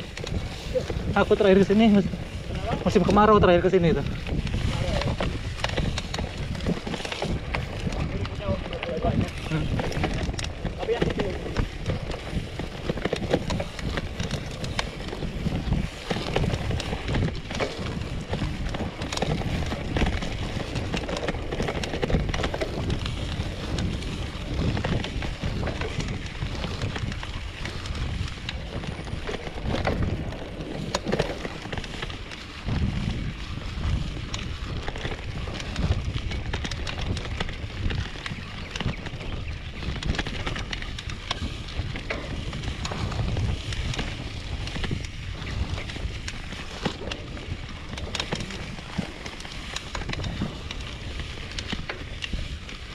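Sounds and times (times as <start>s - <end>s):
bike knocking and rattling: 0.0s - 52.9s
bike tyres rumbling on grass: 0.0s - 52.9s.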